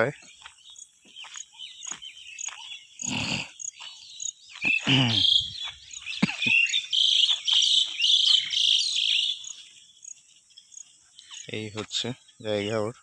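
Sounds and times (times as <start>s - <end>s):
birds singing and chirping: 0.0s - 13.0s
high insect chirp: 0.0s - 13.0s.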